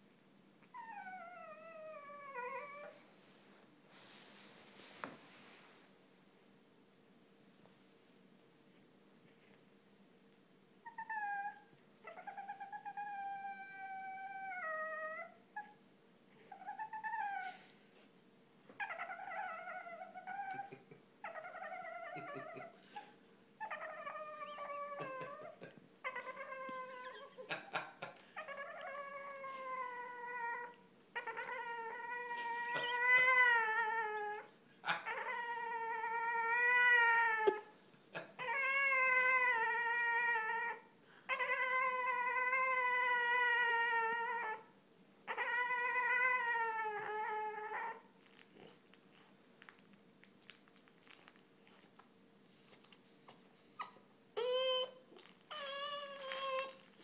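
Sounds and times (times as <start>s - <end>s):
dog whining: 0.6s - 3.1s, 10.8s - 15.8s, 16.4s - 17.9s, 18.7s - 49.4s, 50.6s - 57.0s.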